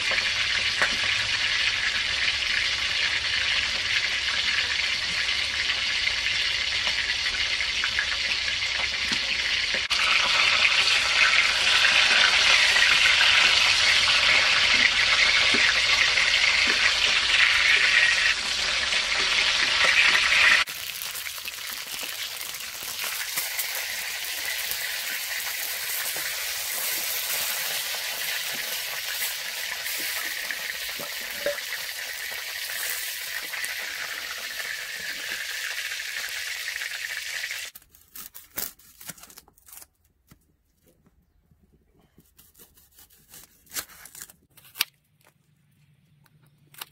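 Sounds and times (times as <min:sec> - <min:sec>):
fish sizzling in hot oil: 0:00.0 - 0:37.8.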